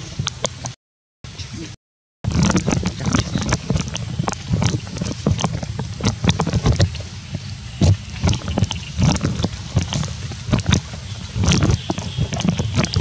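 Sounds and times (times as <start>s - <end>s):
wind on microphone: 0.0s - 13.0s
monkey chewing food: 2.3s - 13.0s.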